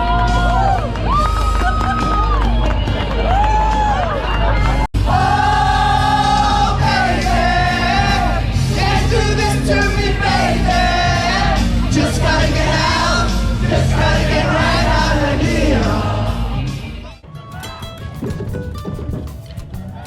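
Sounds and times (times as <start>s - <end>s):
steady bass notes: 0.0s - 20.0s.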